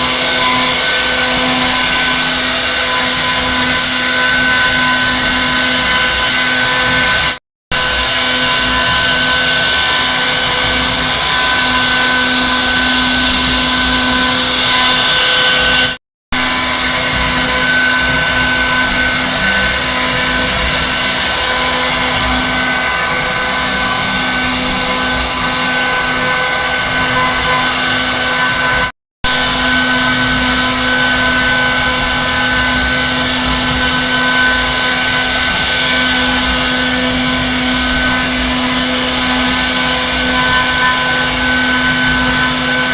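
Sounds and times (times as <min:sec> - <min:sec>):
router spindle whining: 0:00.0 - 0:42.9.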